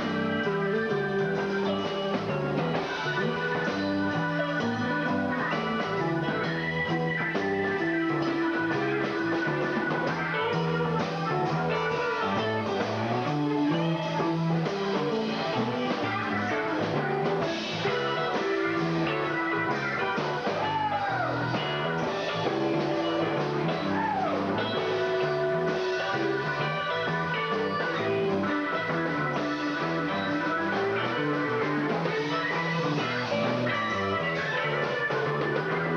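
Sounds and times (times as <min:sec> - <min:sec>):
electric guitar bending notes: 0:00.0 - 0:35.9
rock band playing live: 0:00.0 - 0:35.9.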